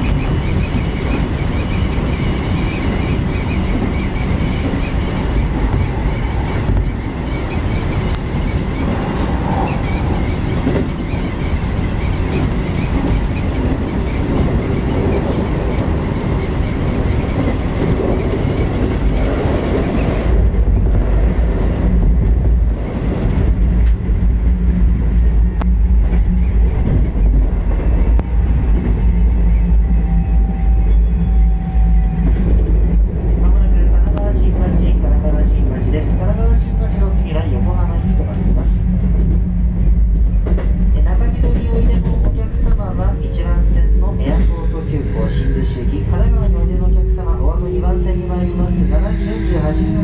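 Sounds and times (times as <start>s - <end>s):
train clickety-clack: 0.0s - 50.0s
train wheels on rails: 0.0s - 50.0s.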